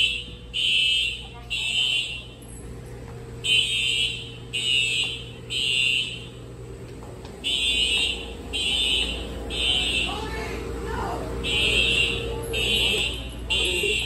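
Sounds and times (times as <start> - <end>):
fire alarm horn blasts: 0.0 - 14.0.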